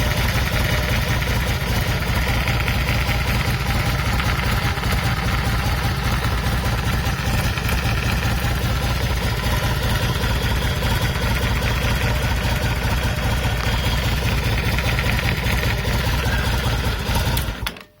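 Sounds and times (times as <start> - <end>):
motorcycle engine running: 0.0 - 17.7
rattling engine noise: 0.0 - 17.7.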